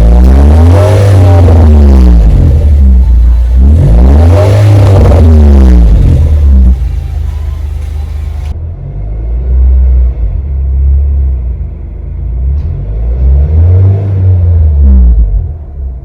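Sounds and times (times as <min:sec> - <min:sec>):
car exhaust rumbling: 0:00.0 - 0:16.0.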